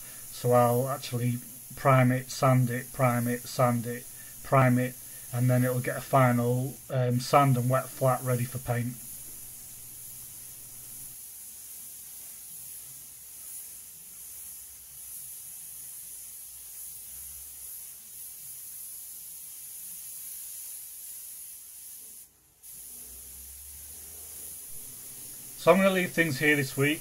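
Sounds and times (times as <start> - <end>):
spray gun hissing: 0.0 - 27.0.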